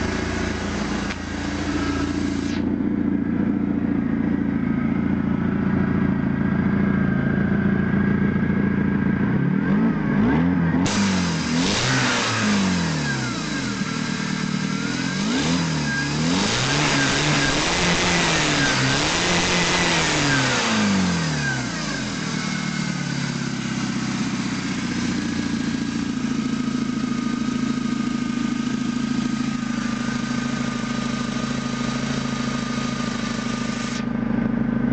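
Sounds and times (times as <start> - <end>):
petrol engine idling and revving: 0.0 - 34.9.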